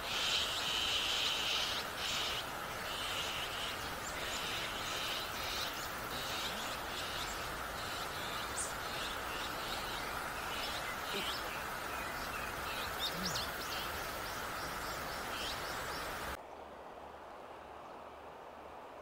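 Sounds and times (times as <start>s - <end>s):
birds chirping: 0.0s - 16.4s
outdoor background hiss: 0.0s - 19.0s.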